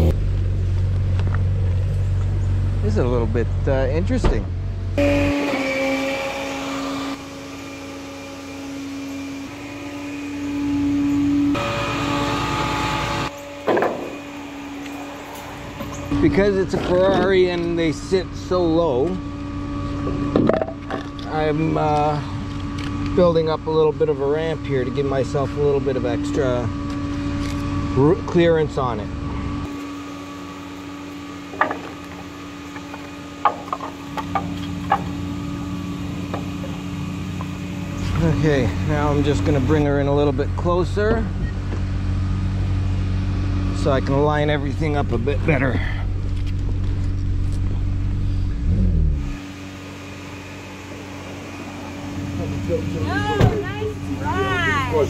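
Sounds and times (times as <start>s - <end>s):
hydraulic pump hum: 4.2s - 55.0s.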